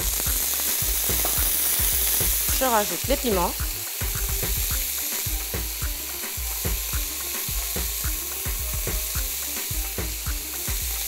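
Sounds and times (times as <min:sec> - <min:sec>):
crackling pops: 0:00.0 - 0:11.0
vegetables sizzling in frying pan: 0:00.0 - 0:11.0.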